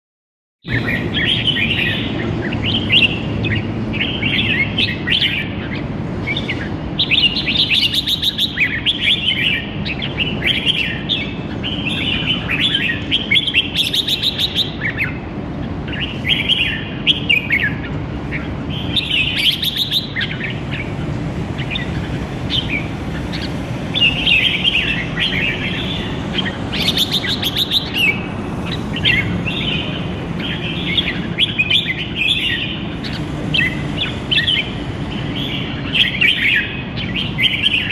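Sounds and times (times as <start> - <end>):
bird chirping song: 0.6 - 37.9.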